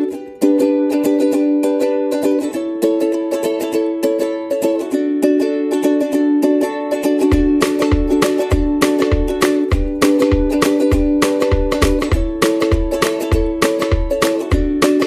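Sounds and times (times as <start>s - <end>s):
strummed ukulele chords: 0.0s - 15.0s.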